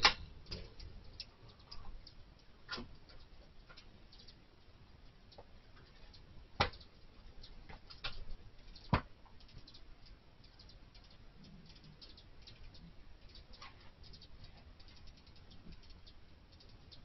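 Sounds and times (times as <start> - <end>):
faint sharp ticks and clicks: 0.0 - 17.0.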